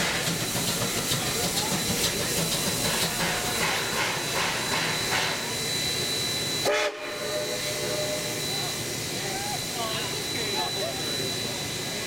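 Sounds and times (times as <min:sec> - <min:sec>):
steam locomotive exhaust beats: 0:00.0 - 0:12.0.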